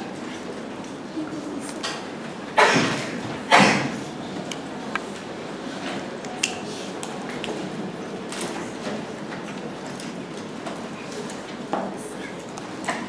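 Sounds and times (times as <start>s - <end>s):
classroom room noise: 0.0s - 13.0s.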